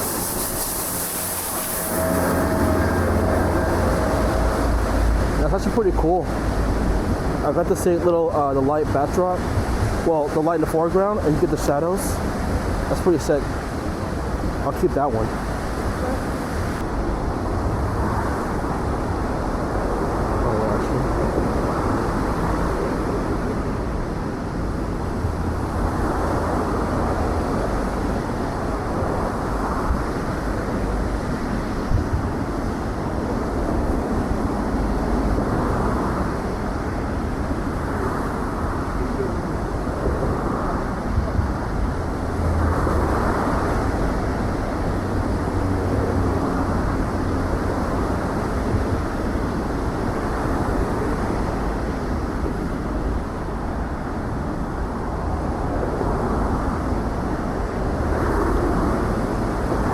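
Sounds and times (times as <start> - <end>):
wind on microphone: 0.0 - 8.1, 12.1 - 59.9
city traffic: 0.0 - 10.0, 10.9 - 59.9.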